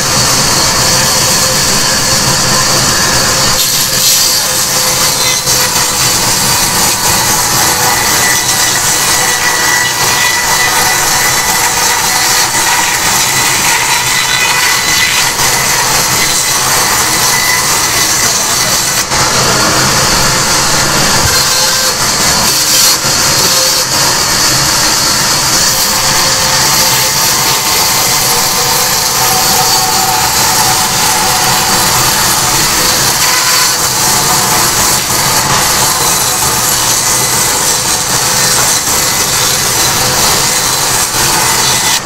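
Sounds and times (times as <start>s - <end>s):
band saw cutting log: 0.0s - 42.0s.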